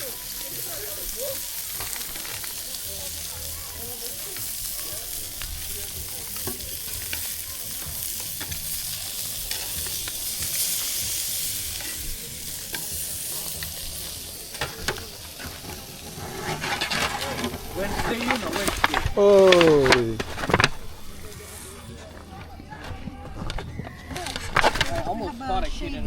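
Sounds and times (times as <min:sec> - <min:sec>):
meat sizzling: 0:00.0 - 0:21.9.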